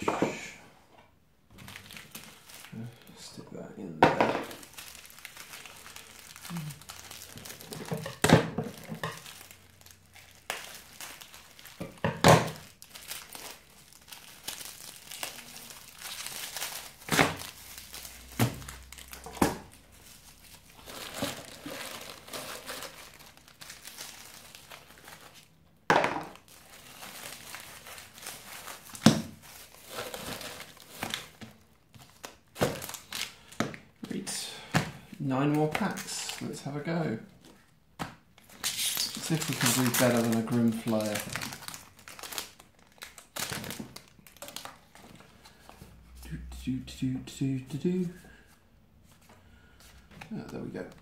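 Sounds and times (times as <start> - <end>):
plastic shrink-wrap crinkling and tearing: 1.5 - 3.4, 4.4 - 25.6, 26.3 - 34.6, 35.2 - 45.8.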